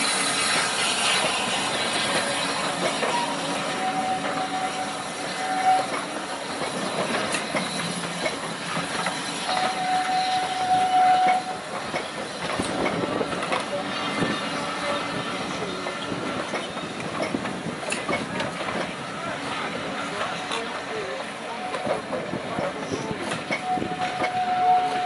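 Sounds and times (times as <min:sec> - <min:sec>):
train rumble: 0:00.0 - 0:25.0
train wheels clicking over rail joints: 0:00.0 - 0:25.0.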